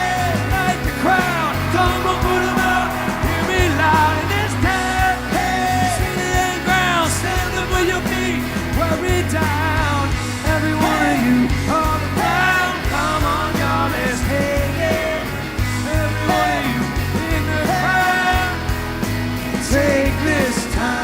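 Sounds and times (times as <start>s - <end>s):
bass line: 0.0s - 21.0s
rock song with singing: 0.0s - 21.0s.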